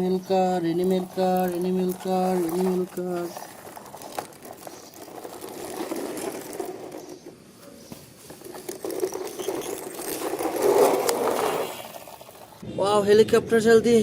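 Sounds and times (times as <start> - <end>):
toy motor rattling buzz: 0.3 - 7.4, 8.2 - 12.6.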